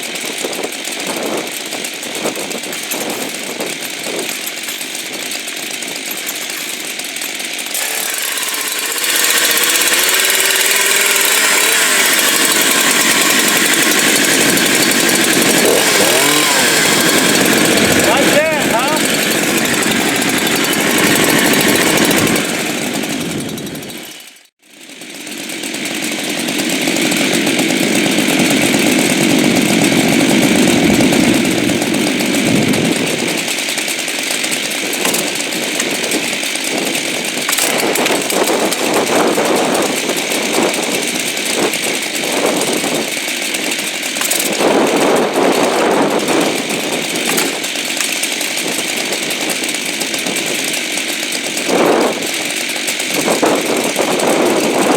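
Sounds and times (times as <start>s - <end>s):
chainsaw running at high revs: 0.0s - 54.9s.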